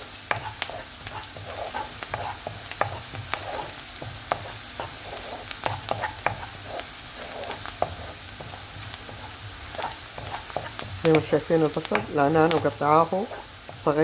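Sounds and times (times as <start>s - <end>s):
onion sizzling in hot oil: 0.0s - 14.0s
wooden spoon stirring in a pan: 0.0s - 14.0s.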